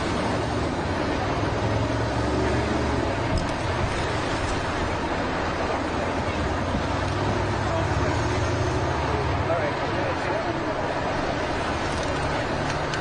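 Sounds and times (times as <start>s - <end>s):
low engine rumble: 0.0s - 13.0s
outdoor noise: 0.0s - 13.0s.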